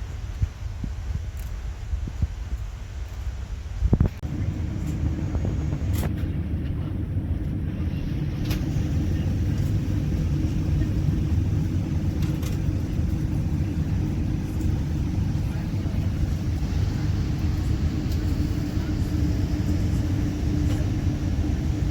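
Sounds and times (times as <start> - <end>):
airliner cabin rumble: 0.0 - 21.9.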